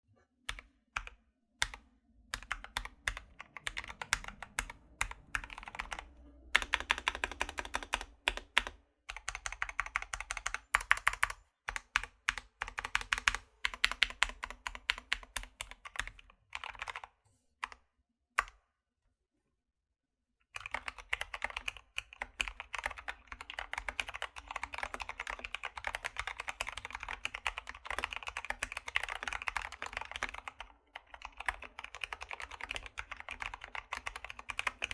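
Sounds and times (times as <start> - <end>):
mechanical keyboard typing: 0.5 - 17.2, 20.6 - 34.9.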